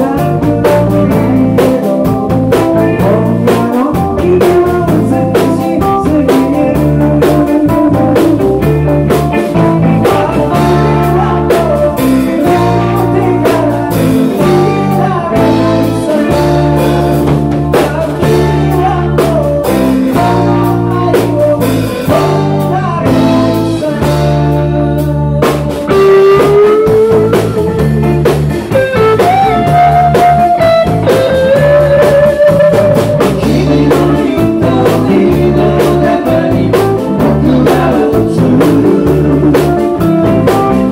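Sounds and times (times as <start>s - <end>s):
male lead vocal: 0.0s - 28.3s, 29.2s - 40.9s
bass guitar: 0.0s - 40.9s
drum kit beat: 0.0s - 40.9s
electric guitars: 0.0s - 40.9s.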